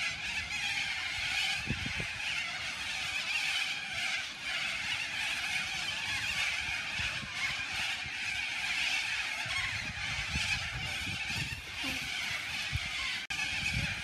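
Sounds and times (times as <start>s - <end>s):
flock of birds screeching: 0.0s - 14.0s.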